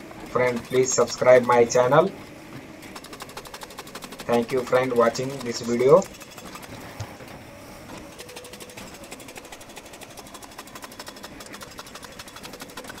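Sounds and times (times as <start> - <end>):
excavator engine running: 0.0 - 13.0
hydraulic breaker hammering rock: 0.2 - 2.1, 2.8 - 7.1, 7.9 - 13.0.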